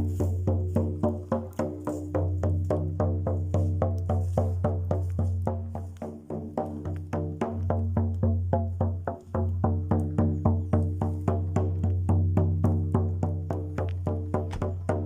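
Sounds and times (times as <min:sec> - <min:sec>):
drum beaten in steady rhythm: 0:00.0 - 0:15.0.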